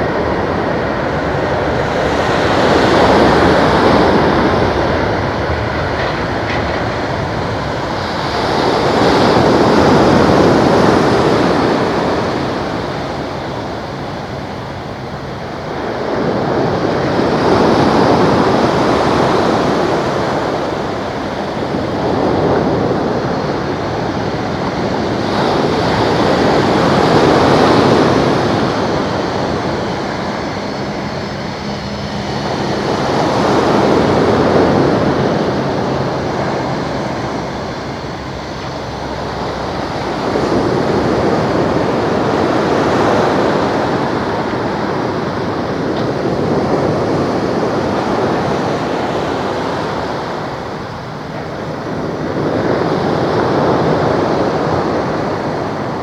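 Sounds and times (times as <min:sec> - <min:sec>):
sea waves washing ashore: 0:00.0 - 0:56.0
wind buffeting microphone: 0:00.0 - 0:56.0.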